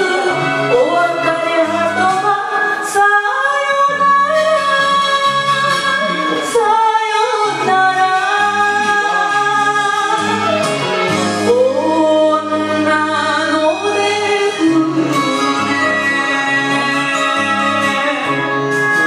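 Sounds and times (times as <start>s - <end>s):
band accompaniment with bass: 0.0s - 19.0s
woman singing: 0.0s - 19.0s.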